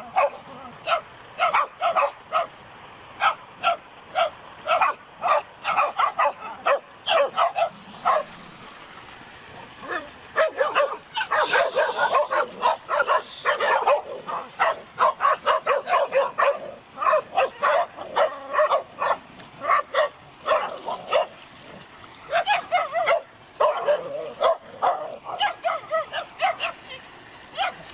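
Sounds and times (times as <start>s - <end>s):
dogs barking: 0.0s - 2.6s, 3.2s - 8.4s, 9.7s - 27.9s.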